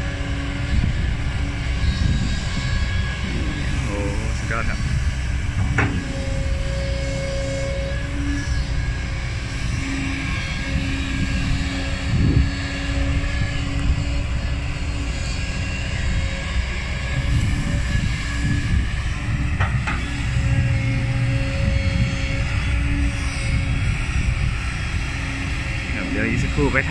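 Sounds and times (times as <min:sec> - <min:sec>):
excavator diesel engine running: 0:00.0 - 0:26.9
hydraulic hum: 0:00.0 - 0:26.9.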